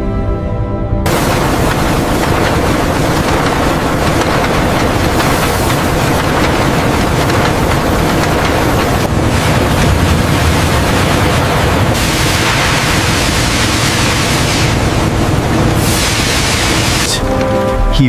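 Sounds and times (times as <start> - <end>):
low rumble: 0.6 - 17.2
water rushing through wire mesh: 1.1 - 17.2.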